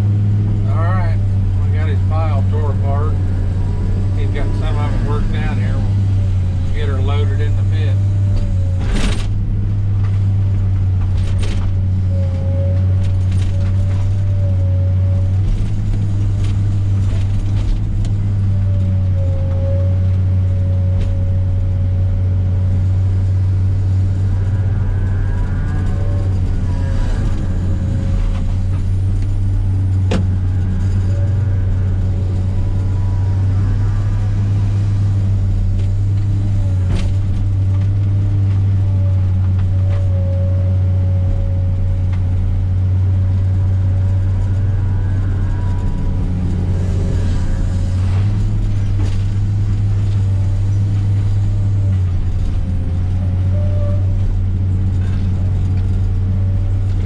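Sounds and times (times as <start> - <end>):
excavator diesel engine running: 0.0 - 57.0
hydraulic whine: 0.0 - 57.0.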